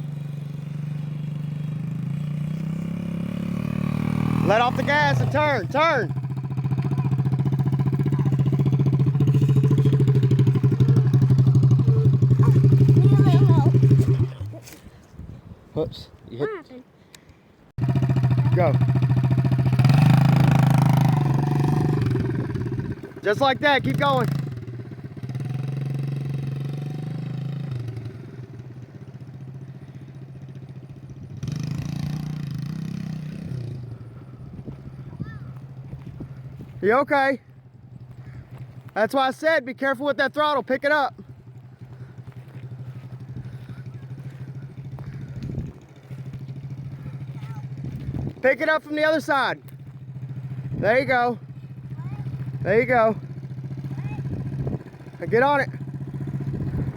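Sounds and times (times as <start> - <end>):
dirt bike engine running: 0.0 - 14.6, 17.8 - 56.9.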